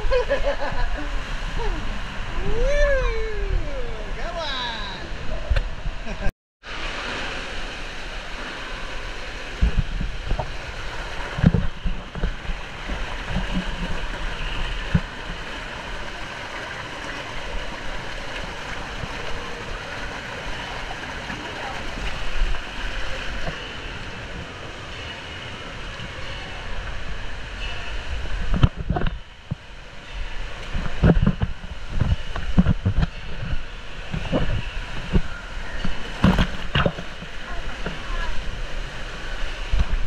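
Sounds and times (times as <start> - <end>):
running water rushing: 0.0 - 40.0.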